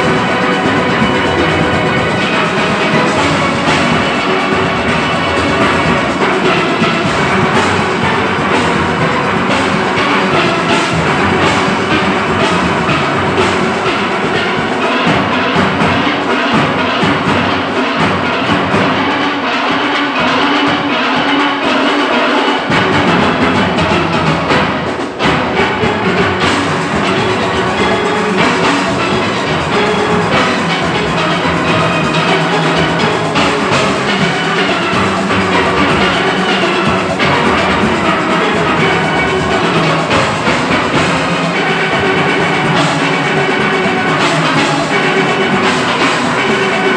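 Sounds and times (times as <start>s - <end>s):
drums and percussion beat: 0.0s - 46.9s
steelpans playing: 0.0s - 46.9s.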